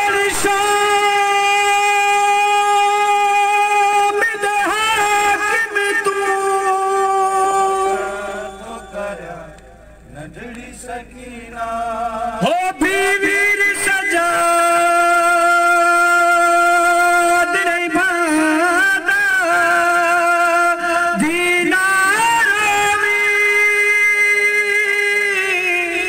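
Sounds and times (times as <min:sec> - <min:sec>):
man chanting a lament: 0:00.0 - 0:26.0.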